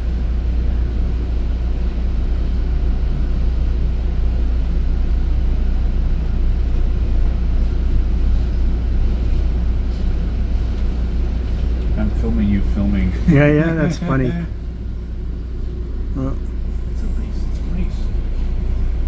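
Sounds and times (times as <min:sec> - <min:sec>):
train running inside coach: 0:00.0 - 0:19.0.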